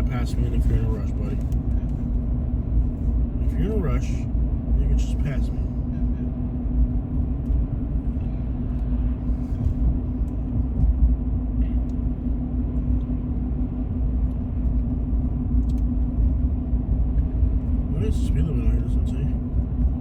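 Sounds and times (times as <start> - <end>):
car road noise: 0.0 - 20.0
constant low hum: 0.0 - 20.0.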